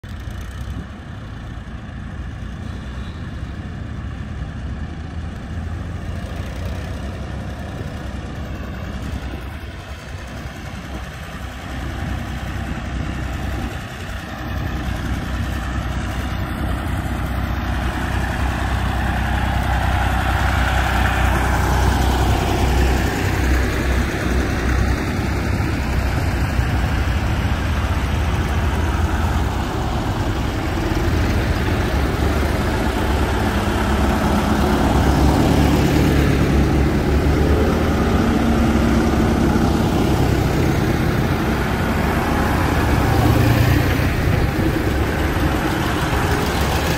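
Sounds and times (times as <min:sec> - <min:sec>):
tractors driving past: 0:00.0 - 0:46.9.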